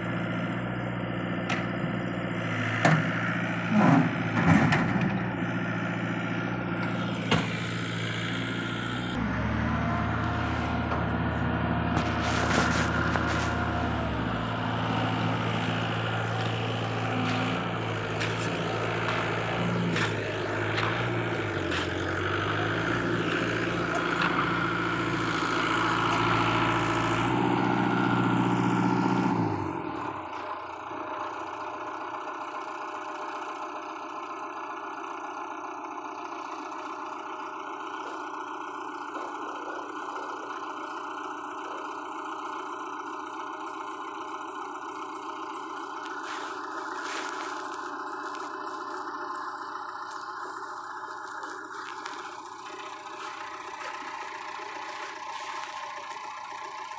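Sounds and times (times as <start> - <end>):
heavy diesel engines working: 0.0 - 56.9.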